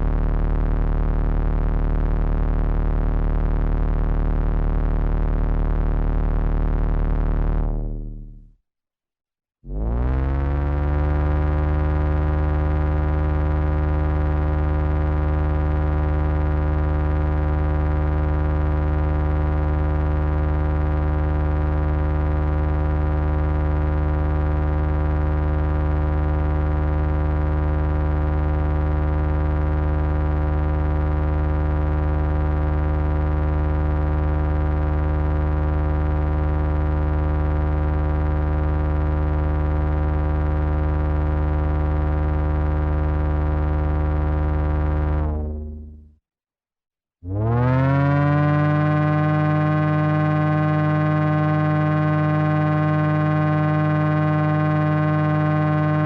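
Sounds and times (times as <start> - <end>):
synthesized low drone tone: 0.0 - 8.6, 9.7 - 46.2, 47.2 - 56.0.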